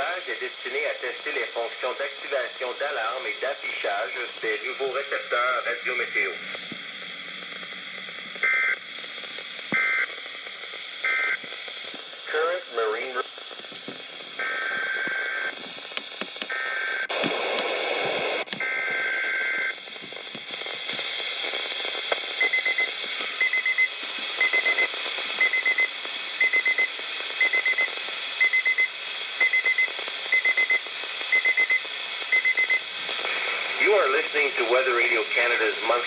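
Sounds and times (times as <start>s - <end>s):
radio hiss: 0.0s - 26.4s, 32.9s - 36.0s.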